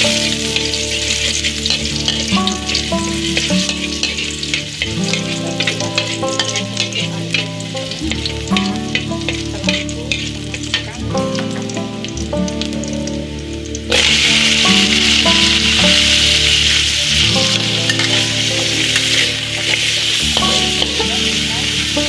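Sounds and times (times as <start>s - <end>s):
metal spatula stirring in wok: 0.0s - 11.8s, 13.9s - 22.0s
food sizzling in hot oil: 0.0s - 22.0s.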